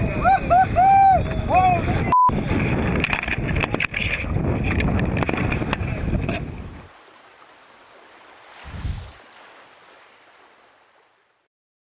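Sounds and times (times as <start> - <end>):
wind and water rumbling: 0.0 - 11.5
gust or splash: 1.7 - 11.5.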